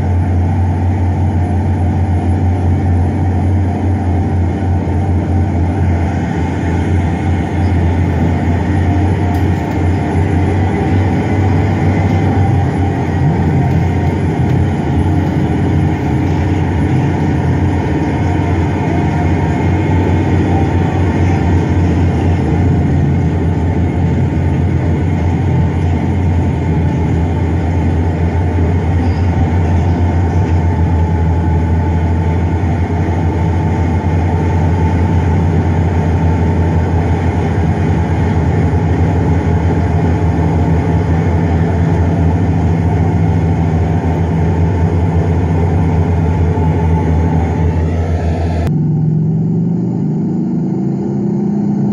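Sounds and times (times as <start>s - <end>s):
bulldozer diesel engine drone: 0.0s - 51.9s.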